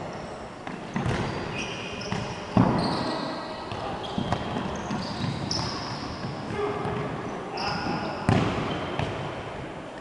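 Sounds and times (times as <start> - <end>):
sneakers squeaking on wooden court: 0.1 - 9.3.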